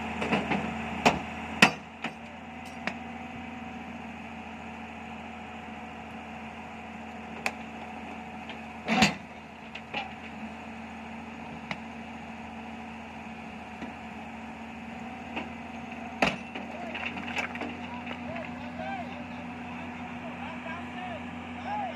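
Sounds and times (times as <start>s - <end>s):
diesel machinery humming: 0.0s - 21.9s.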